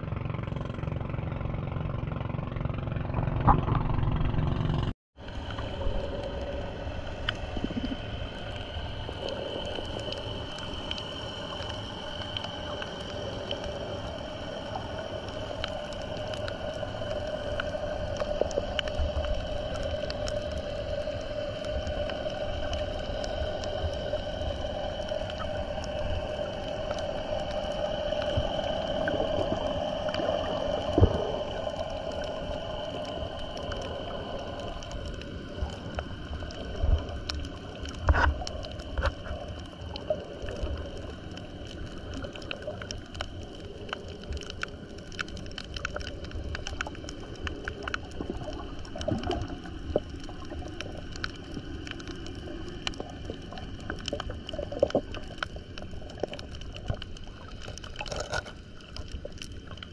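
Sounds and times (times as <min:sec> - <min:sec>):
underwater hum: 0:00.0 - 0:59.9
clicks and crackles: 0:07.1 - 0:59.9.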